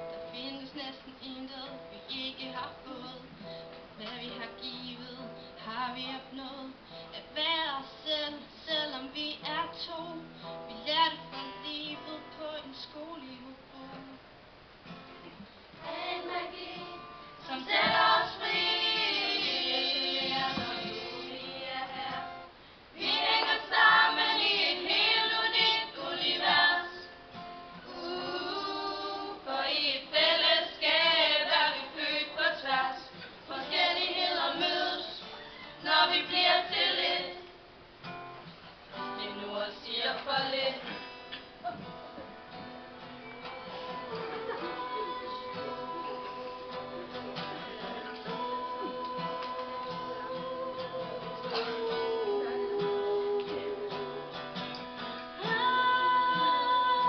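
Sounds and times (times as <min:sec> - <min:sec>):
acoustic guitar: 0:00.0 - 0:57.0
young women singing: 0:00.3 - 0:03.3, 0:04.0 - 0:14.2, 0:15.8 - 0:27.2, 0:27.8 - 0:37.6, 0:39.0 - 0:41.1, 0:43.6 - 0:54.3, 0:55.4 - 0:57.0.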